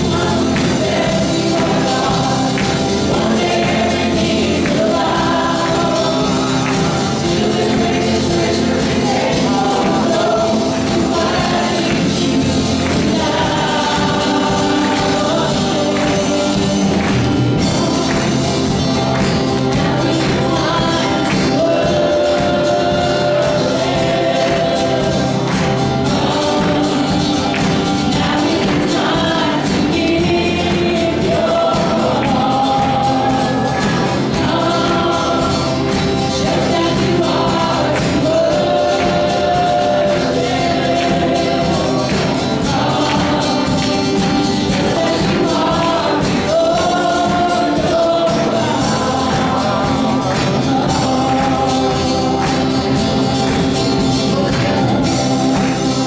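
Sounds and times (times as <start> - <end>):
live band playing: 0.0 - 56.0
steady percussion beat: 0.0 - 56.0
worship team singing: 0.0 - 56.0.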